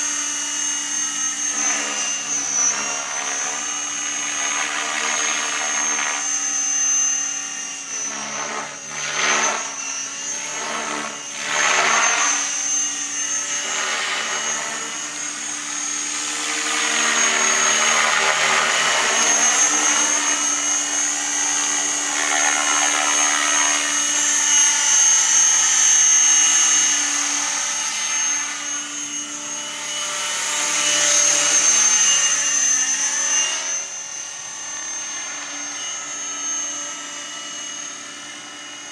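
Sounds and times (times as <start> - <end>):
rotor blades whirring: 0.0 - 38.6
electric motor whine: 0.0 - 38.9.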